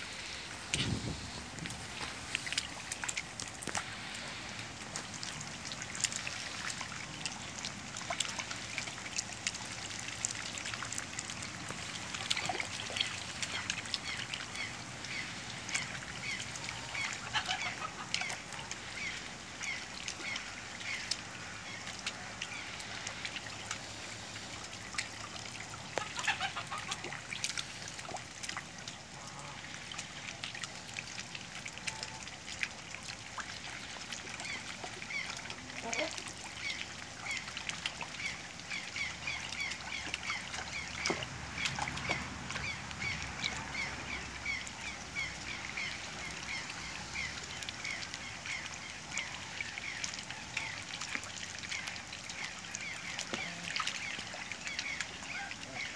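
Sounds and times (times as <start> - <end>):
water splashing and dripping: 0.0 - 55.9.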